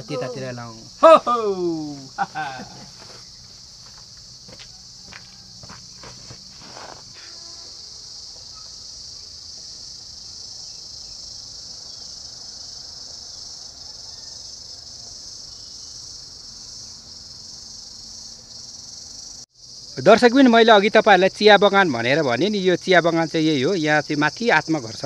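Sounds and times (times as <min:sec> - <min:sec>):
cicadas singing: 0:00.0 - 0:25.0.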